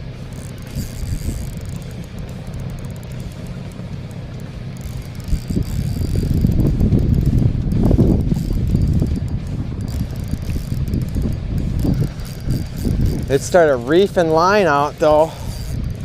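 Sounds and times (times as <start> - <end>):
fishing reel clicking: 0.0 - 16.0
low rumble: 0.0 - 16.0.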